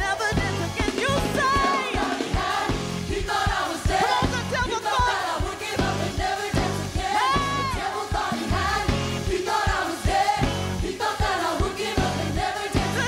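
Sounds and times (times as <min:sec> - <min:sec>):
band drums and bass: 0:00.0 - 0:13.0
gospel choir singing: 0:00.0 - 0:13.0.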